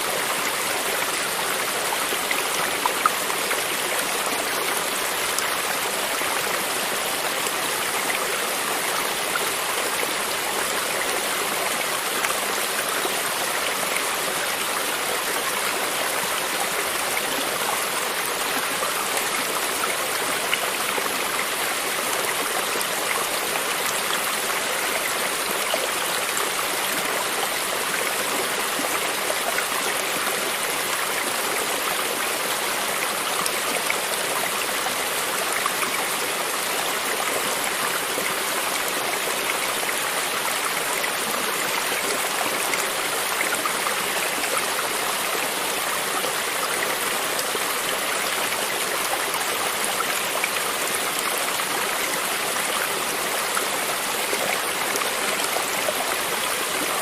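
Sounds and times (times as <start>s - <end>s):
creek babbling over stones: 0.0s - 57.0s.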